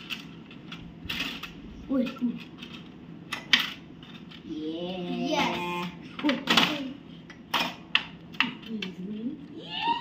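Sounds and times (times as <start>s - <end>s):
foosball rods rattling: 0.0s - 9.4s.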